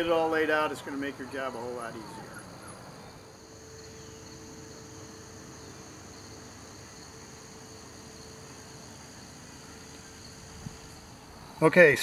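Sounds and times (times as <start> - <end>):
faint steady hum: 0.0 - 12.0
insects trilling: 0.0 - 12.0.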